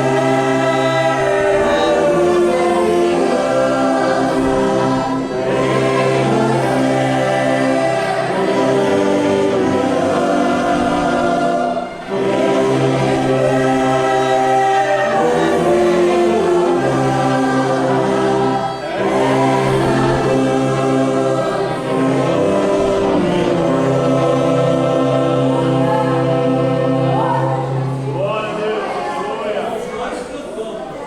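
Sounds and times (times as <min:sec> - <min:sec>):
church orchestra accompaniment: 0:00.0 - 0:31.0
congregation singing a hymn: 0:00.0 - 0:31.0.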